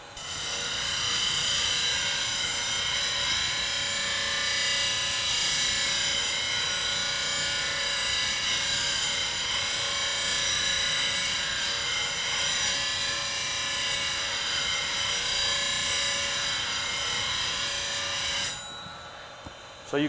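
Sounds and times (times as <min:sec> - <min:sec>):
bench grinder grinding metal: 0:00.1 - 0:19.4.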